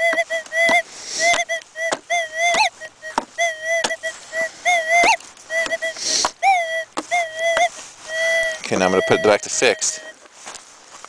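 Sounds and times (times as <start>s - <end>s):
metal detector warbling tones: 0.0s - 10.1s.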